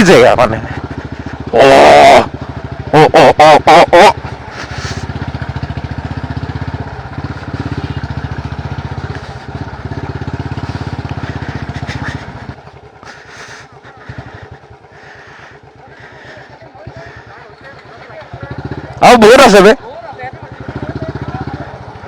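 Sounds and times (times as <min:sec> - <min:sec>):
motorbike engine running: 0:00.0 - 0:22.0.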